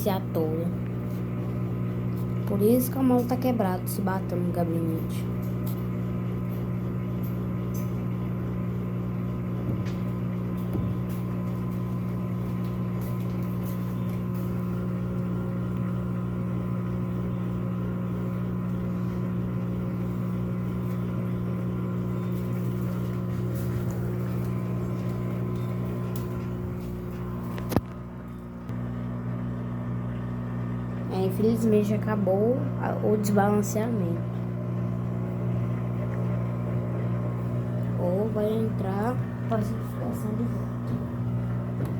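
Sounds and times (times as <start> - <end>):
washing machine motor hum: 0.0 - 41.9.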